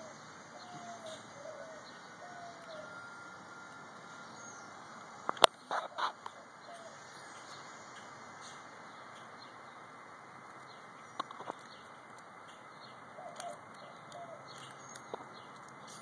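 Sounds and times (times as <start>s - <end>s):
faint bird calls: 0.0s - 9.9s, 10.6s - 16.0s
rustles: 0.0s - 16.0s.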